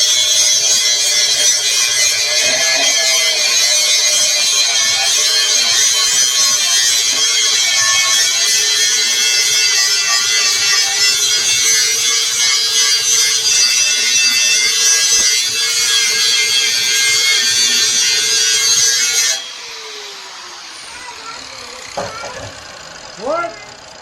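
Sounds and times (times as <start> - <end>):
welding arc crackling and hissing: 0.0 - 24.0.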